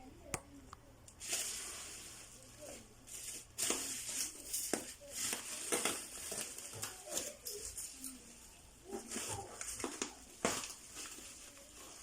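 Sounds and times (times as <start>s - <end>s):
packaging rustling and crinkling: 1.2s - 8.2s, 8.8s - 12.0s.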